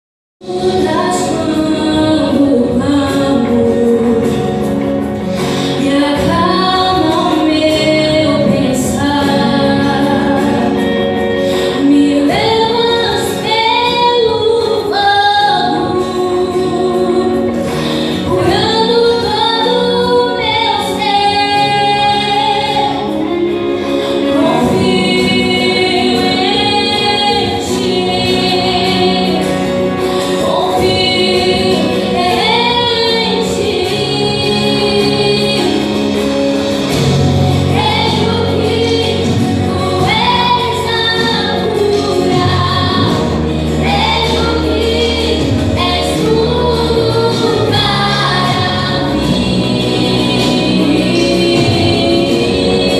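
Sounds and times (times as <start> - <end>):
sustained instrumental accompaniment: 0.4 - 52.9
young woman singing: 0.4 - 52.9.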